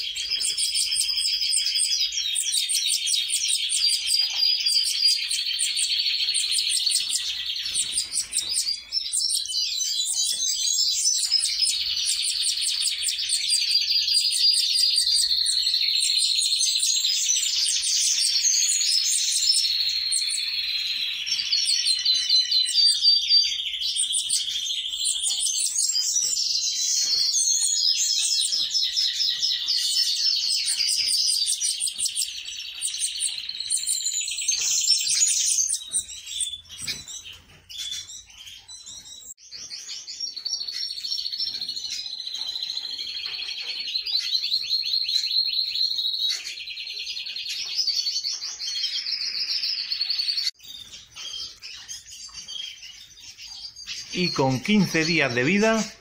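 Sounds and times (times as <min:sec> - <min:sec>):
finches singing: 0:00.0 - 0:56.0.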